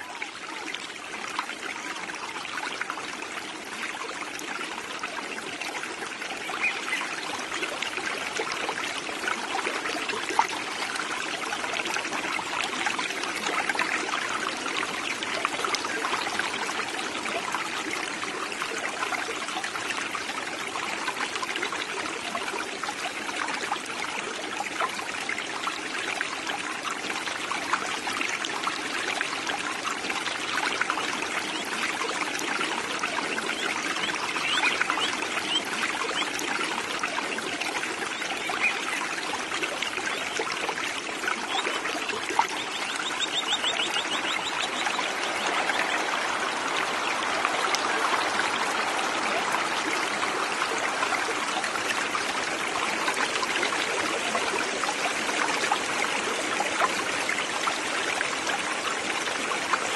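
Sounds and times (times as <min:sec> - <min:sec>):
creek babbling over rocks: 0:00.0 - 0:59.9.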